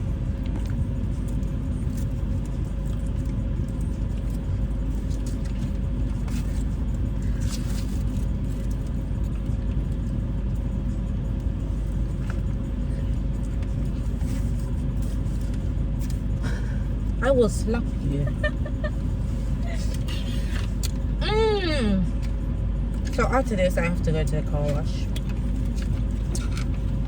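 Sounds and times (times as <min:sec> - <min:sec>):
car engine rumble inside cabin: 0:00.0 - 0:27.0.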